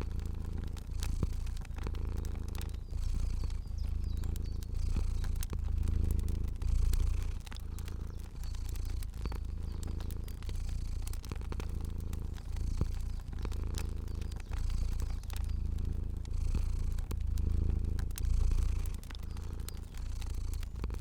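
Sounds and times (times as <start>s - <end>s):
cat purring: 0.0s - 21.0s
fire crackling and popping: 0.0s - 21.0s.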